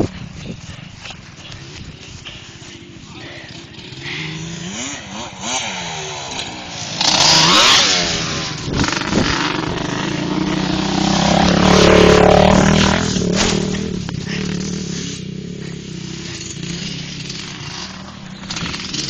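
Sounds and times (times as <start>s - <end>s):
atv engines revving: 0.0s - 19.0s.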